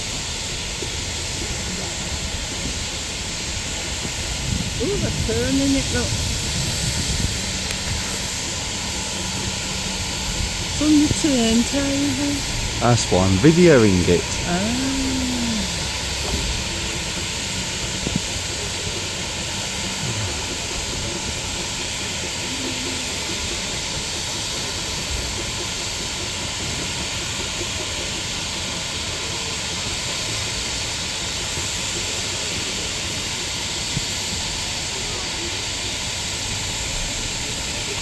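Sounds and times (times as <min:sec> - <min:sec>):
steam locomotive hissing steam: 0:00.0 - 0:38.0.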